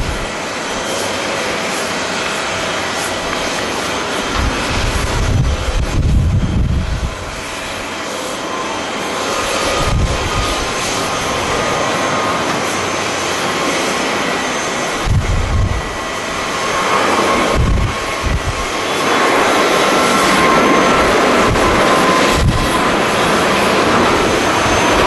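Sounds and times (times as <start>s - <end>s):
wind buffeting microphone: 0.0s - 1.4s, 2.0s - 8.0s, 9.2s - 25.0s
jet engines running: 0.0s - 25.0s.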